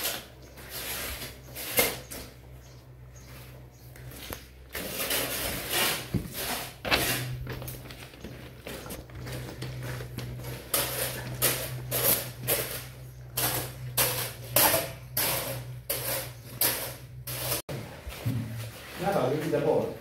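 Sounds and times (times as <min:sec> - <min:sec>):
shovel scraping wet concrete: 0:00.0 - 0:02.4, 0:03.4 - 0:17.6.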